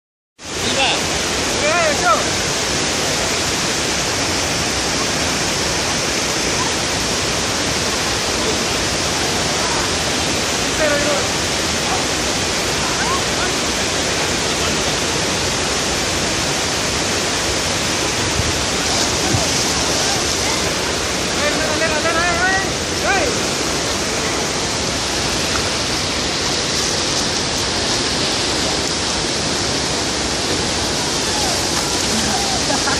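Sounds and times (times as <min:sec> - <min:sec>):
rush of falling water: 0:00.4 - 0:32.9.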